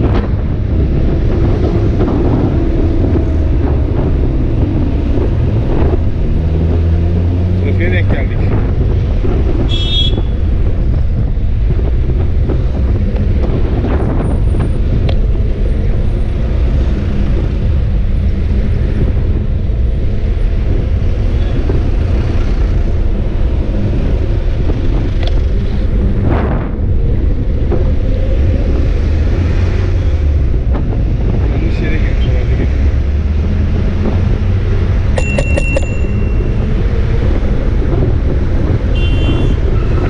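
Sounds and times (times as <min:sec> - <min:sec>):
road traffic engines: 0:00.0 - 0:40.0
wind rumble on microphone: 0:00.0 - 0:40.0.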